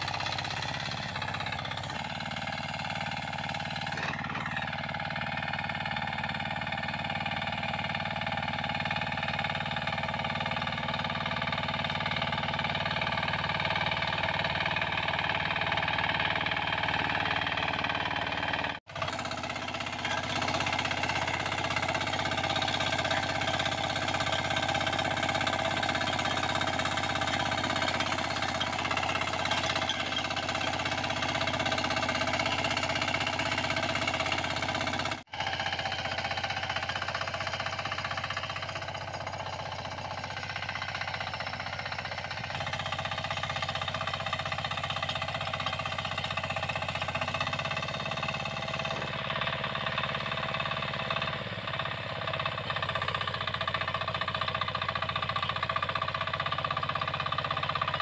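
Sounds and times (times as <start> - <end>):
tiller engine running: 0.0 - 58.0
tines churning soil: 0.0 - 58.0.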